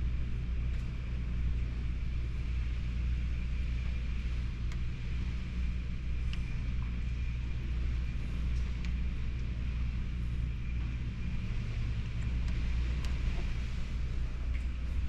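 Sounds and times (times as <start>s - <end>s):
strong wind rumble: 0.0s - 15.0s.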